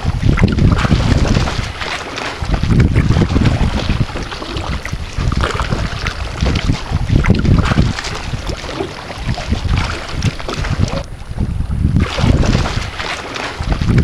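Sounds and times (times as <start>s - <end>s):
water lapping and splashing: 0.0s - 14.0s
wind buffeting the microphone: 0.0s - 14.0s.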